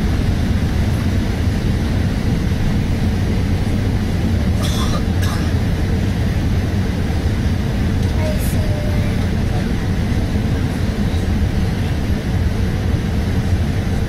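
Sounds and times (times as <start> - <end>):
airplane engines rumbling: 0.0 - 14.0.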